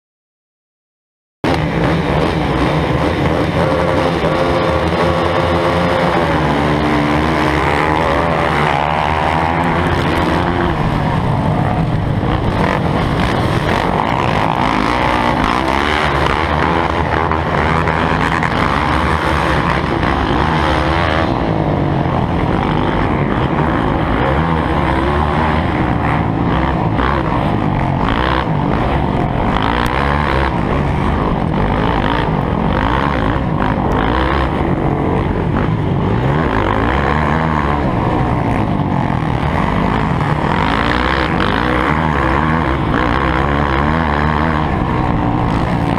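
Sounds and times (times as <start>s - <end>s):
dirt bike engines revving: 1.4s - 45.9s.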